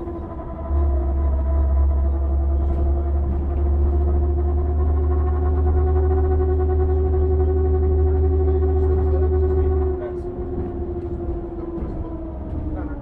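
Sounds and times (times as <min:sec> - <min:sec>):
steady humming tones: 0:00.0 - 0:13.0
vehicle engine rumble: 0:00.0 - 0:13.0.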